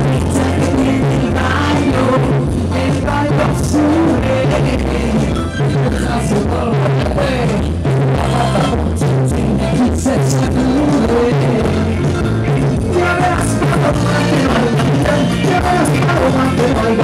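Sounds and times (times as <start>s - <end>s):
amplified live dance-band music: 0.0s - 17.0s.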